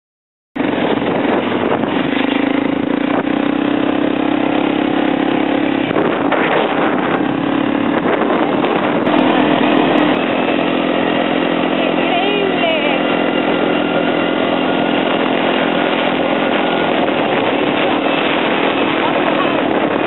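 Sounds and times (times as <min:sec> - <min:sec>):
quad bike engine running: 0:00.6 - 0:20.0
rushing noise: 0:00.6 - 0:20.0.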